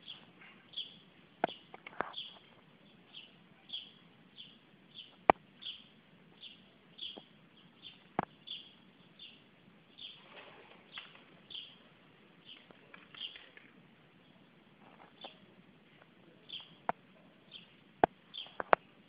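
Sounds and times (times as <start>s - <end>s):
small bird chirping: 0.0s - 15.5s, 16.3s - 18.9s.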